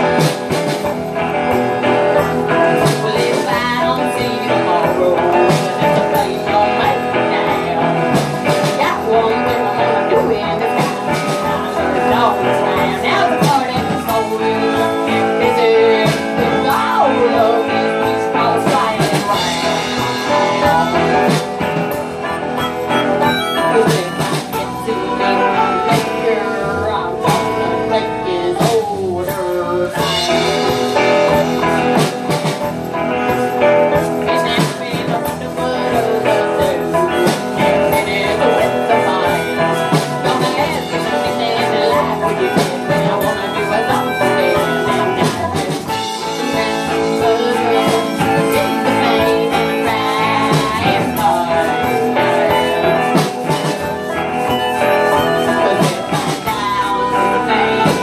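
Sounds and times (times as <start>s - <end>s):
live band playing: 0.0s - 58.0s.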